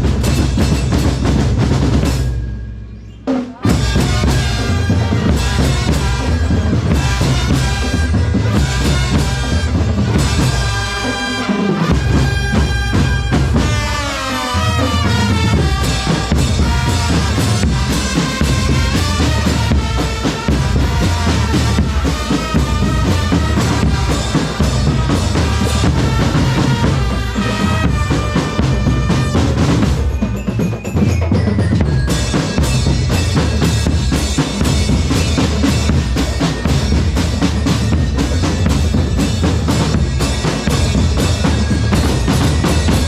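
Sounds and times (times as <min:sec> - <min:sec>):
marching drum band playing: 0:00.0 - 0:43.0.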